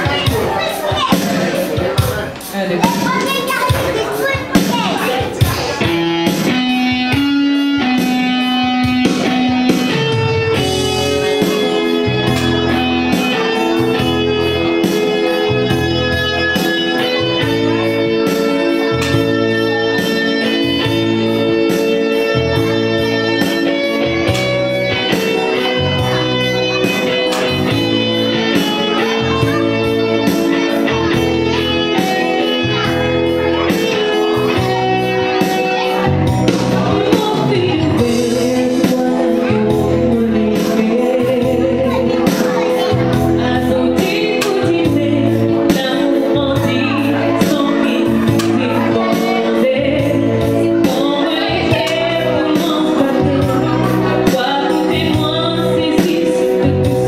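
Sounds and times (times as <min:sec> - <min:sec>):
electronic keyboard music: 0:00.0 - 0:57.0.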